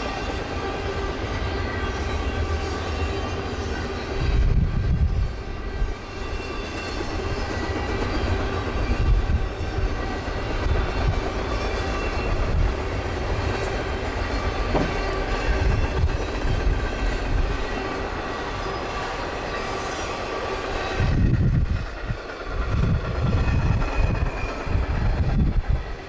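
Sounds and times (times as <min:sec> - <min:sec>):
train cars rumbling on rails: 0:00.0 - 0:26.0.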